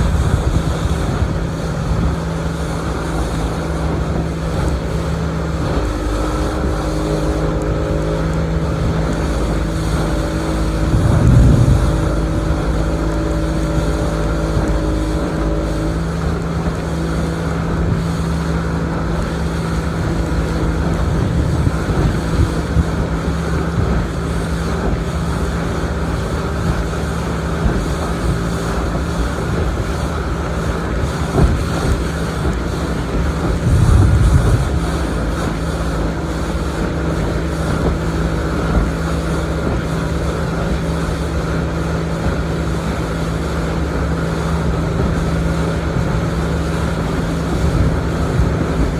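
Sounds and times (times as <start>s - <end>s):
motorboat engine running: 0.0s - 48.9s
wind rushing over microphone: 0.0s - 48.9s.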